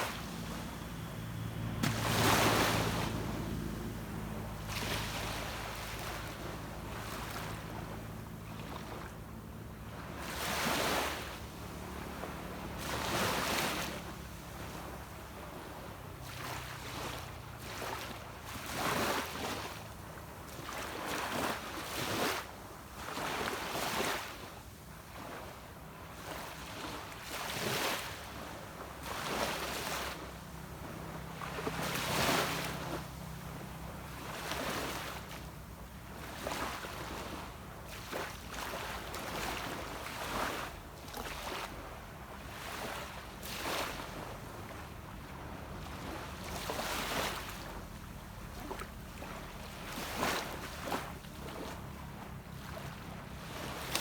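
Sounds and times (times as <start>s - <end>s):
distant boat engine hum: 0.0s - 54.0s
small waves washing onto beach: 0.0s - 54.0s.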